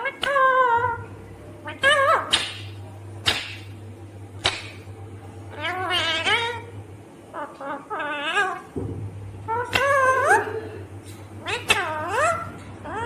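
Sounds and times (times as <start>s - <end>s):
parakeet squawking and calling: 0.0s - 3.7s, 5.5s - 8.8s, 9.4s - 13.0s.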